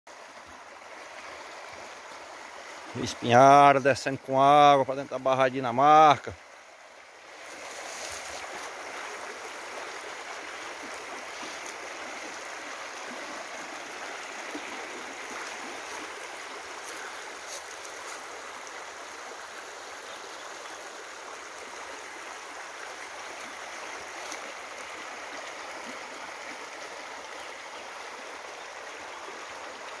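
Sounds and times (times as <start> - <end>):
river water rushing over rocks: 0.1 - 30.0.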